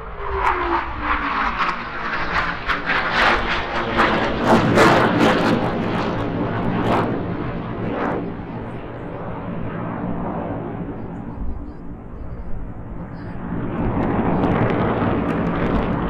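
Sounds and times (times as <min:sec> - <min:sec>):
jets flying overhead: 0:00.0 - 0:16.0.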